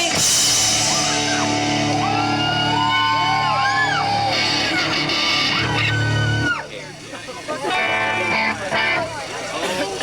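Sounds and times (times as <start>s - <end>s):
rock band playing: 0.0s - 6.6s, 7.6s - 9.2s.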